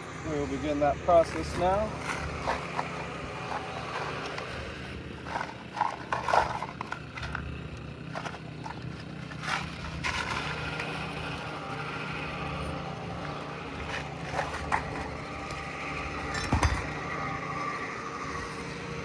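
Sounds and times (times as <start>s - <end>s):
knocks and scrapes on roof shingles: 1.1s - 18.7s.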